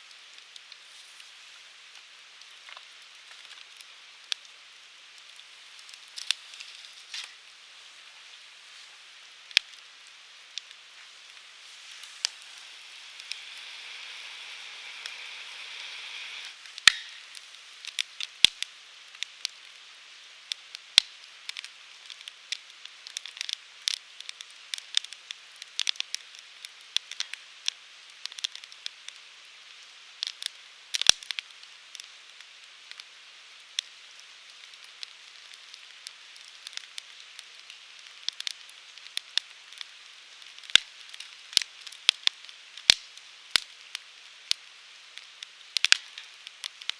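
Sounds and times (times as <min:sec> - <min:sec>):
hiss from burning wood: 0:00.0 - 0:46.9
wood fire crackling and snapping: 0:00.0 - 0:46.9.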